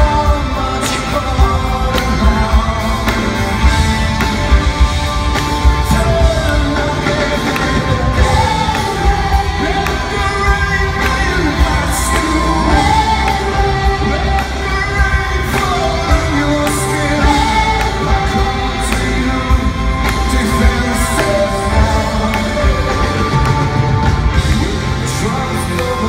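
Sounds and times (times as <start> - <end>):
live rock band: 0.0 - 26.0
man singing: 0.0 - 26.0.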